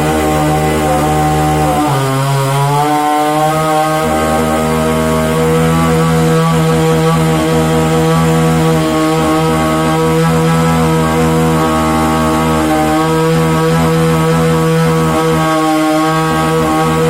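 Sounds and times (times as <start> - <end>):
chainsaw cutting a tree: 0.0 - 17.0.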